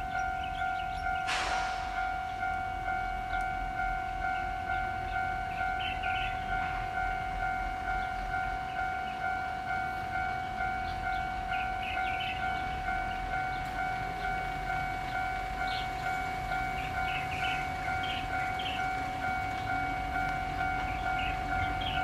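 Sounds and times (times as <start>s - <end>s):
level-crossing warning bell ringing: 0.0s - 22.0s.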